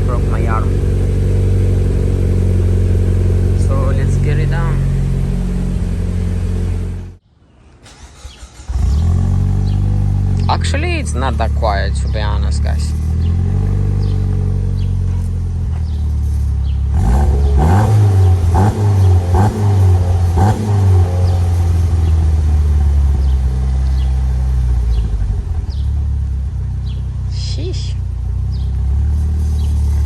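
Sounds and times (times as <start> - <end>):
car engine idling and revving: 0.0 - 7.2, 7.9 - 30.0.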